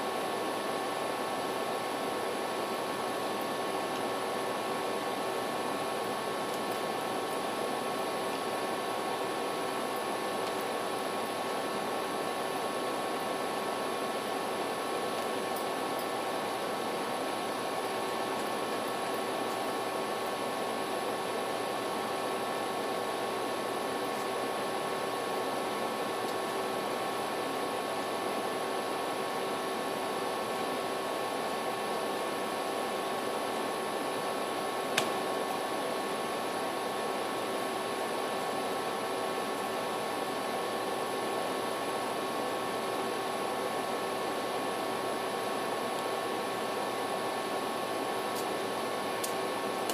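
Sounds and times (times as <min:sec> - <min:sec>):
faint hum tones: 0:00.0 - 0:49.9.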